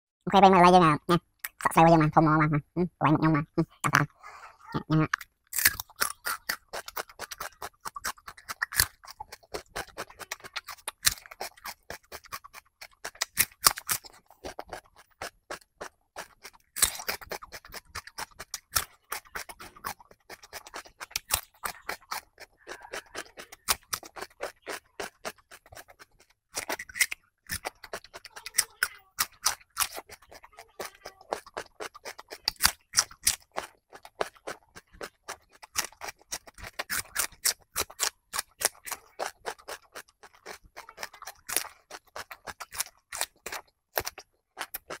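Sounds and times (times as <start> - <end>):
chewing crunchy cucumber: 4.8 - 45.0.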